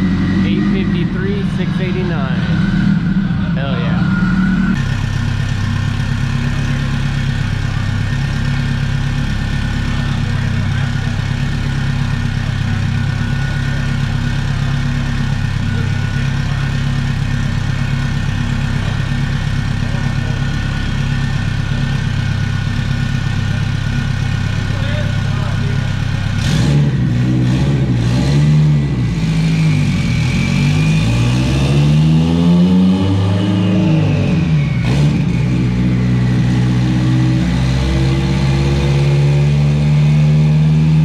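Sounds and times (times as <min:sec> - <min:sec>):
car engine idling: 0:00.0 - 0:32.9, 0:33.6 - 0:41.0.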